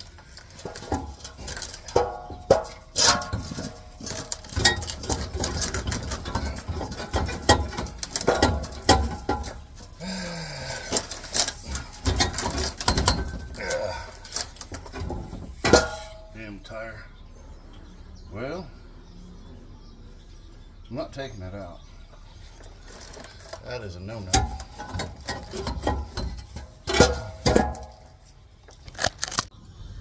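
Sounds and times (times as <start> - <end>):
metal knocks clanks and scrapes: 0.0 - 16.7, 22.1 - 29.5.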